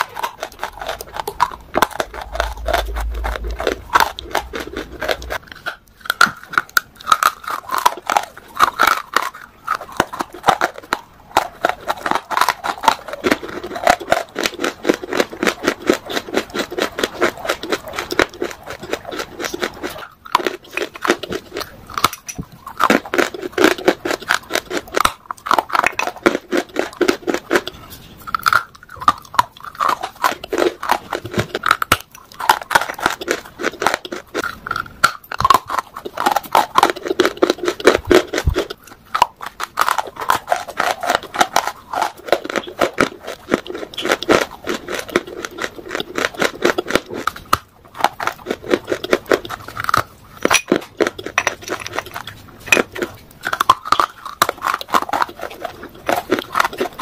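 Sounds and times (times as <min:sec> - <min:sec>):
crunching and chewing clay: 0:00.0 - 0:57.0.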